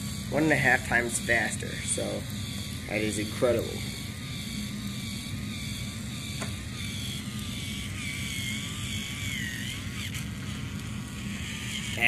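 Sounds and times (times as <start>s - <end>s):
small motor whirring: 0.0s - 12.0s.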